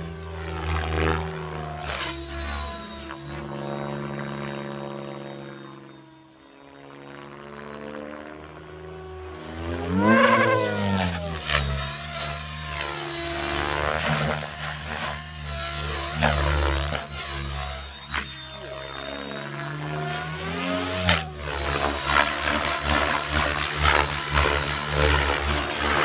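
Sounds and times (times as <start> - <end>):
electric motor whining: 0.0 - 26.0
rotor blades beating: 0.0 - 26.0.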